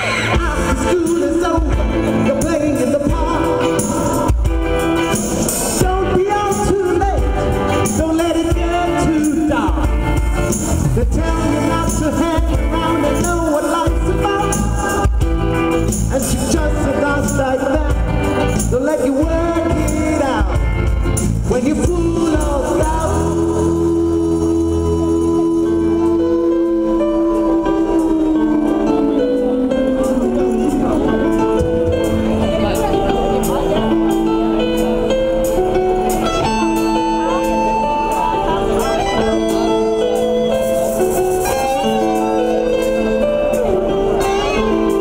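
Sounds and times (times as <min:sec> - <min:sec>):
heavy bass: 0:00.0 - 0:45.0
lead singer: 0:00.0 - 0:45.0
live band playing: 0:00.0 - 0:45.0.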